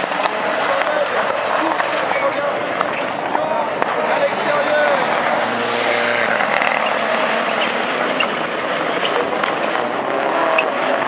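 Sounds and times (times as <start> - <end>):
race cars at high revs: 0.0 - 11.0.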